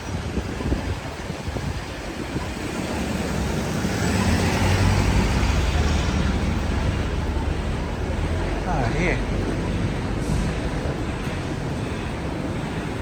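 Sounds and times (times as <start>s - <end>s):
vehicle engine rumble passing: 0.6s - 13.0s.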